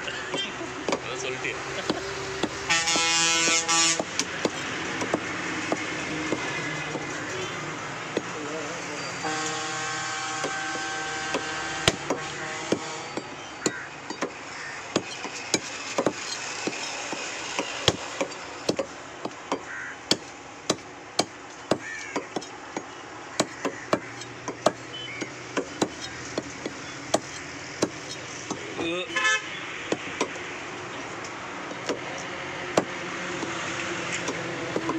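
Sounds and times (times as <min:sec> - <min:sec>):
cleaver chopping meat on wood: 0:00.3 - 0:01.2, 0:01.8 - 0:07.2, 0:08.1 - 0:08.4, 0:10.4 - 0:29.0, 0:29.9 - 0:30.4, 0:31.6 - 0:34.9.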